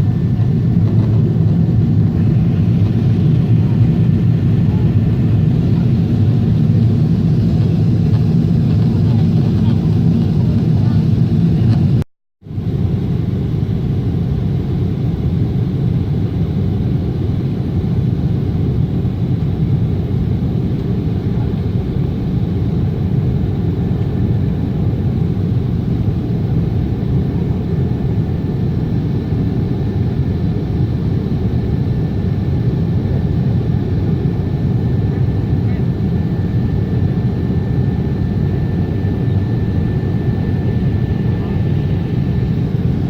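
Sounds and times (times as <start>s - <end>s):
airplane cabin low rumble: 0.0s - 43.0s.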